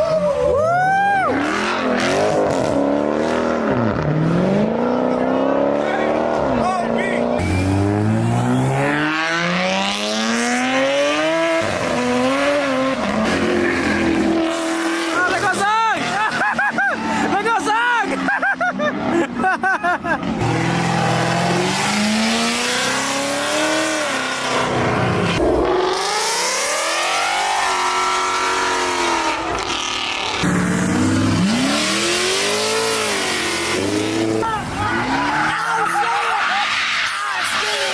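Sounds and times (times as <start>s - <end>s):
car engine accelerating: 0.3s - 37.9s.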